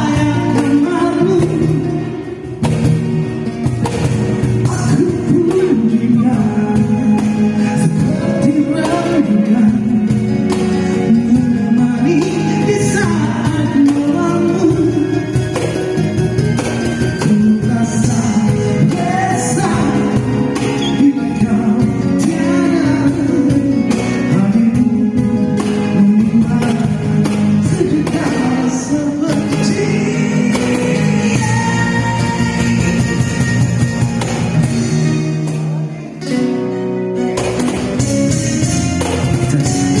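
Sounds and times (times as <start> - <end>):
person singing: 0.0 - 2.6, 4.3 - 36.8
acoustic band playing: 0.0 - 40.0.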